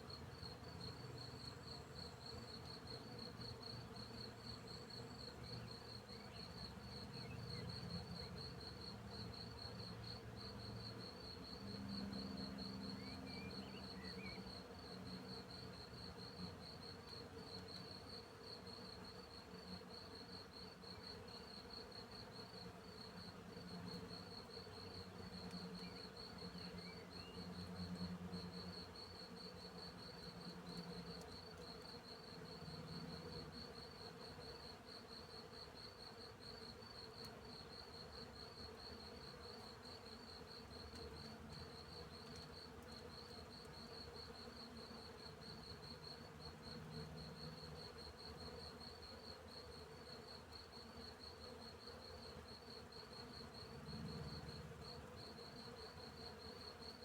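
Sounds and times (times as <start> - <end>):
crickets chirping: 0.1 - 57.0.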